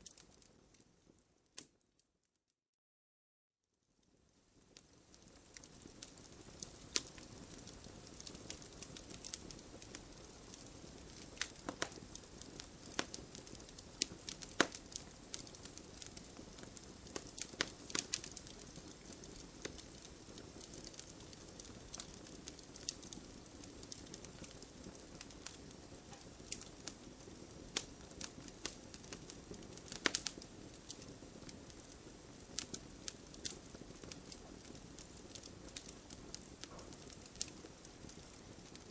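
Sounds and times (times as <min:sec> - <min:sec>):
wood fire crackling and popping: 0:00.0 - 0:01.8, 0:04.0 - 0:38.9.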